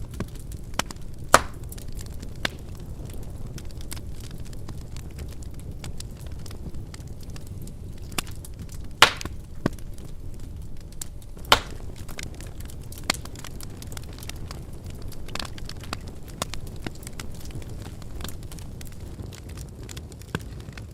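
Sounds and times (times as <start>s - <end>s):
fire popping: 0.0s - 20.9s
wood fire crackling: 0.0s - 20.9s.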